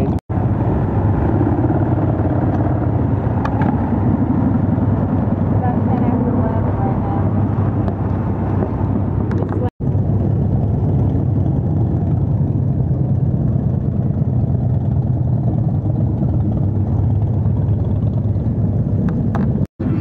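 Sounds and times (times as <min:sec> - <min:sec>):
motorcycles rumbling past: 0:00.0 - 0:20.0.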